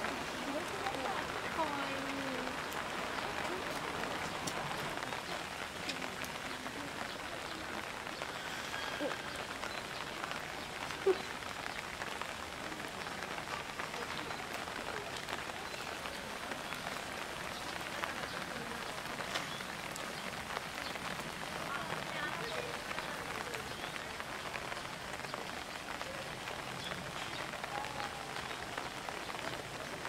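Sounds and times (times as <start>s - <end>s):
heavy rain on water and rocks: 0.0s - 30.0s.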